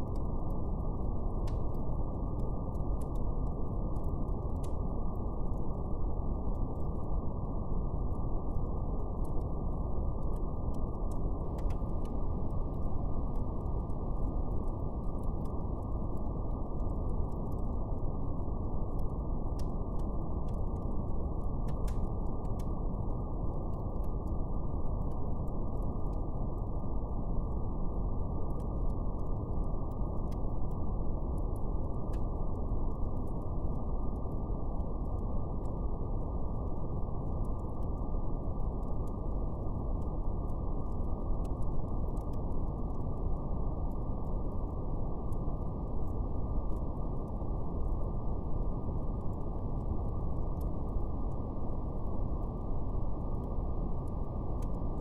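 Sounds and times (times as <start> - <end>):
brown noise rush: 0.0 - 55.0
faint fire crackle: 0.0 - 55.0.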